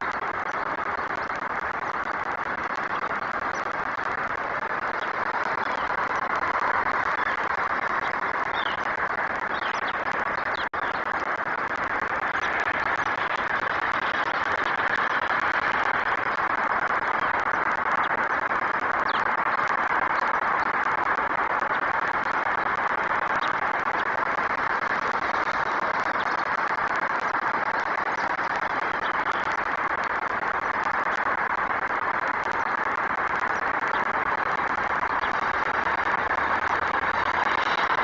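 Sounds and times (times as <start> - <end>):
faint bird chirps: 0.0 - 38.0
outdoor background hiss: 0.0 - 38.0.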